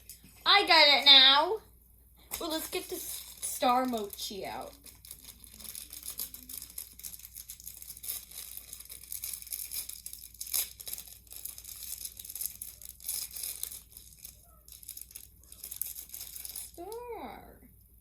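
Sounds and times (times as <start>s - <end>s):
plastic packaging crinkling and tearing: 2.4s - 17.2s.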